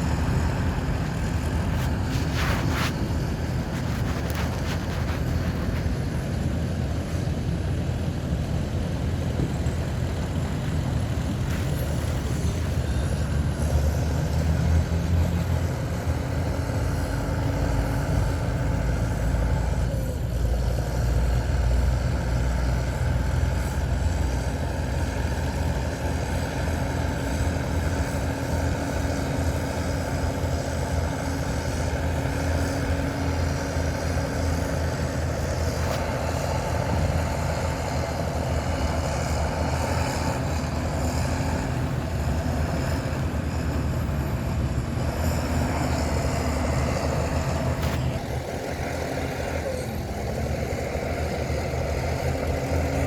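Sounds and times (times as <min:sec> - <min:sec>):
heavy diesel engines rumbling: 0:00.0 - 0:53.0.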